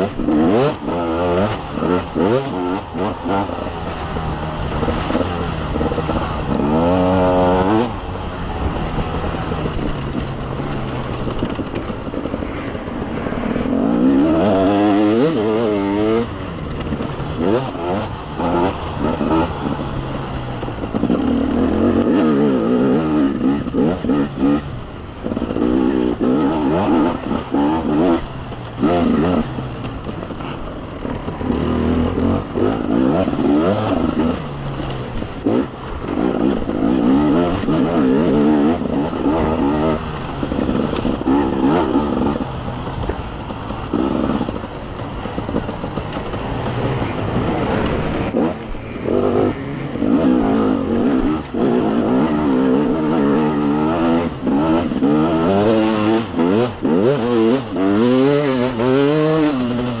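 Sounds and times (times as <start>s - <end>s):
two-stroke motorcycle engine revving: 0.0s - 60.0s.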